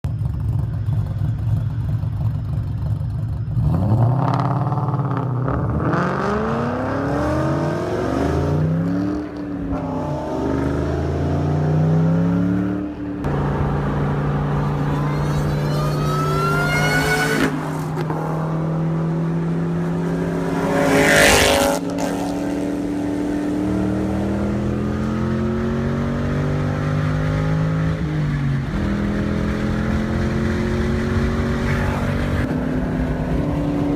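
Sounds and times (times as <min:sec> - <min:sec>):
car engines revving: 0:00.1 - 0:33.9
car accelerating: 0:00.2 - 0:33.9.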